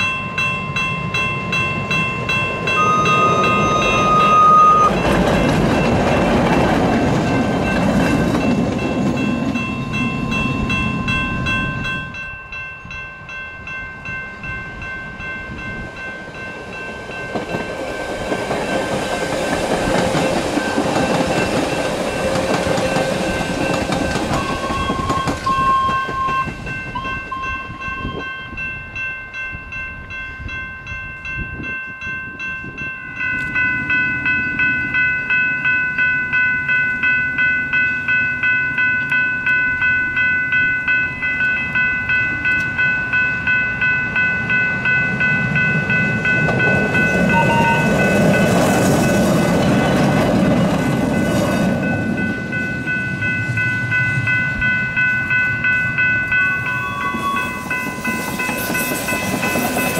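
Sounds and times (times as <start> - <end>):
level crossing bells ringing: 0.0 - 59.9
train rumbling past: 0.0 - 59.9.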